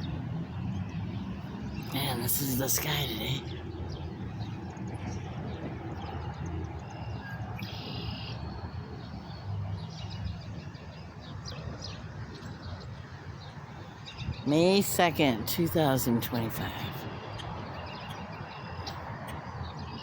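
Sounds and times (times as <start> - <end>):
outdoor rush with low rumble: 0.0 - 20.0
small birds chirping: 0.0 - 20.0.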